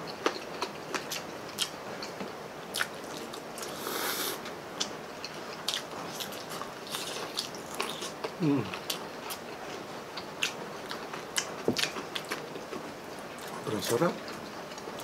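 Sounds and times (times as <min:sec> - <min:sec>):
chewing crispy food: 0:00.0 - 0:15.0.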